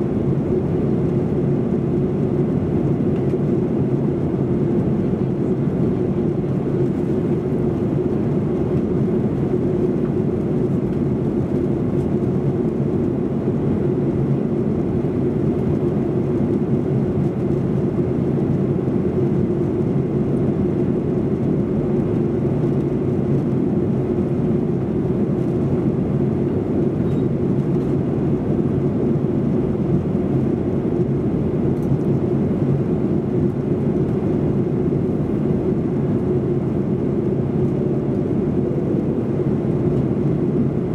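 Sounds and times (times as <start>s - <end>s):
jet engines humming: 0.0s - 40.9s.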